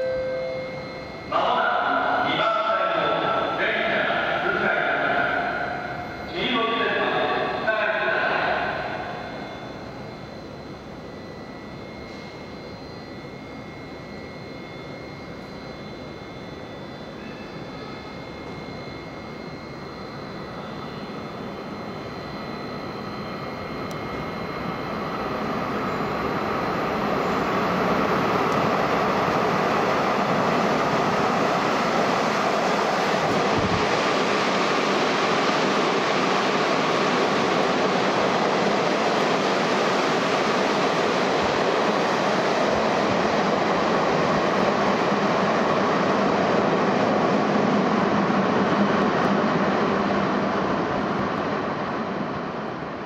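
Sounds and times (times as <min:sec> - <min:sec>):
electric train passing at speed: 0:00.0 - 0:53.0
faint high whine: 0:00.0 - 0:53.0.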